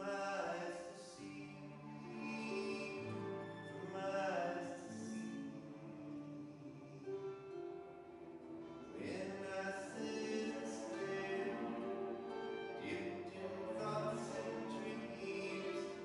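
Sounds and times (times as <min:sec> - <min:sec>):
acoustic guitar: 0:00.0 - 0:16.0
cello: 0:00.0 - 0:16.0
violin: 0:00.0 - 0:16.0
harp: 0:01.2 - 0:16.0.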